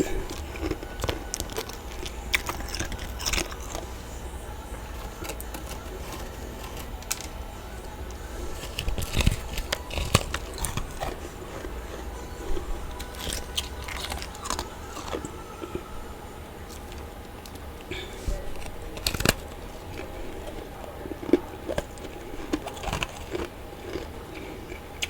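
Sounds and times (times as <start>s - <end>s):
crunching frost in mouth: 0.0s - 25.0s
steady low hum: 0.0s - 25.0s.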